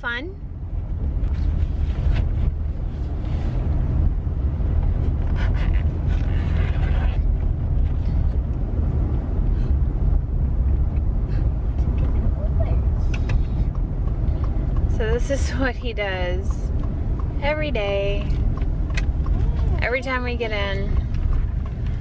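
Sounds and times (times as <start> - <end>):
car engine rumble in cabin: 0.0 - 22.0.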